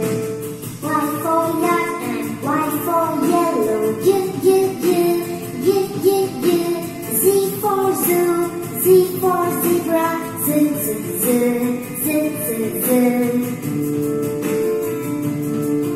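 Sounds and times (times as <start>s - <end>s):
backing music: 0.0s - 15.9s
woman singing: 0.8s - 13.7s.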